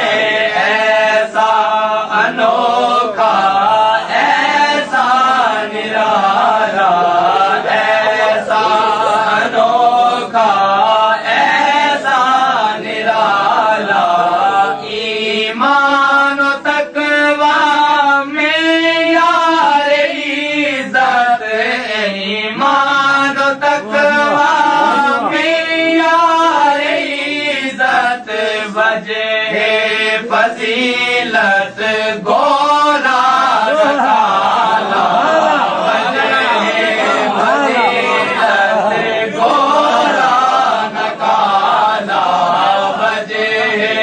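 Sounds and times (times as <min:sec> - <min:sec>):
man chanting: 0:00.0 - 0:44.0.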